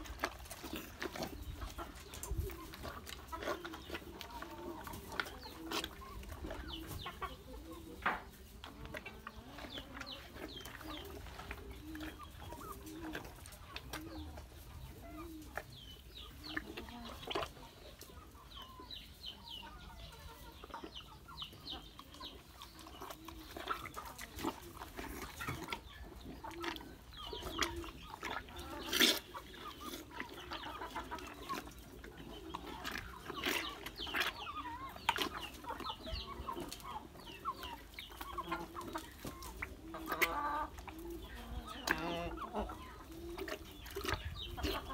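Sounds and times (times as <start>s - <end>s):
bull slurping and munching: 0.0s - 18.6s, 20.5s - 44.9s
chickens clucking: 0.0s - 44.9s.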